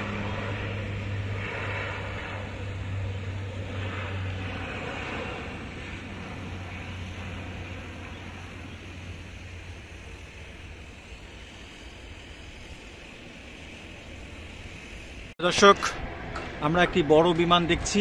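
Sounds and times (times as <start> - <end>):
turboprop airliner engines: 0.0 - 18.0.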